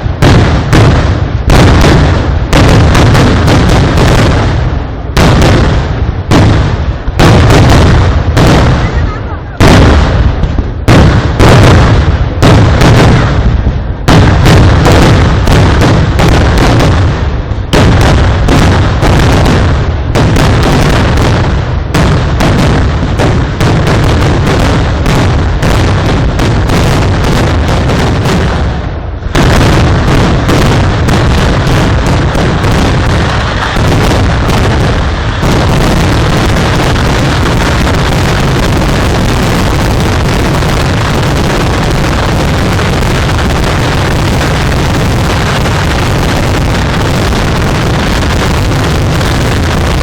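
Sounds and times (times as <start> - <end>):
fireworks bangs: 0.0 - 50.0.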